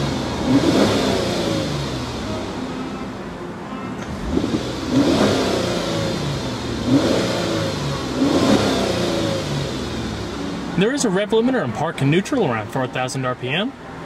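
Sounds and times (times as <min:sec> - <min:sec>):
car engine revving: 0:00.0 - 0:03.2, 0:04.0 - 0:12.9.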